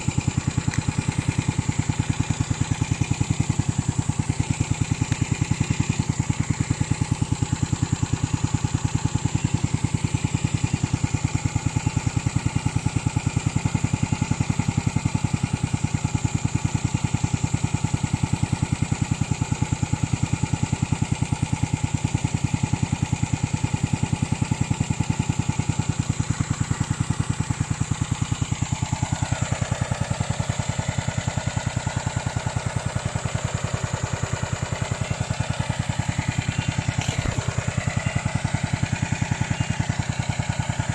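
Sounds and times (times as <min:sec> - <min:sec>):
lawn mower engine running: 0:00.0 - 0:40.9.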